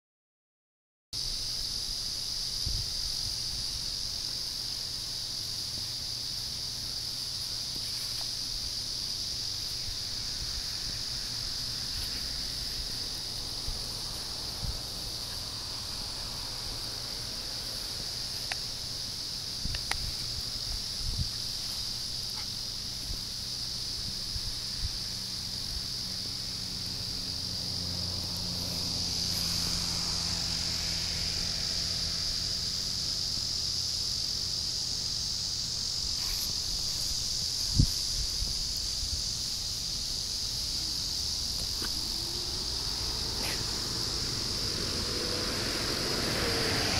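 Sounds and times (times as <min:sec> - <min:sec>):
cicadas and insects droning: 0:01.2 - 0:46.9
car rumble: 0:03.0 - 0:46.9.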